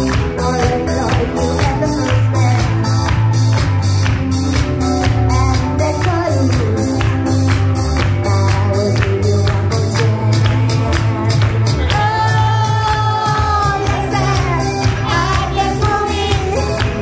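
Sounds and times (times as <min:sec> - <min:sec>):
pop dance music: 0:00.0 - 0:17.0.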